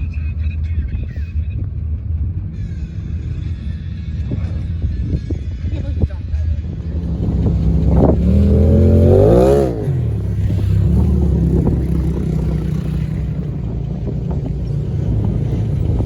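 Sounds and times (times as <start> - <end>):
truck engine revving and idling: 0.0 - 16.0.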